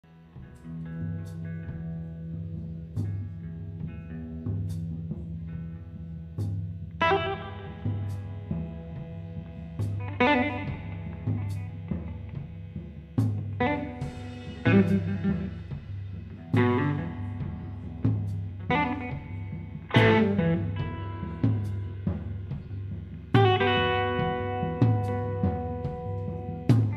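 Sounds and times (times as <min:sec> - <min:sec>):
electric guitar chords: 0:00.1 - 0:26.9.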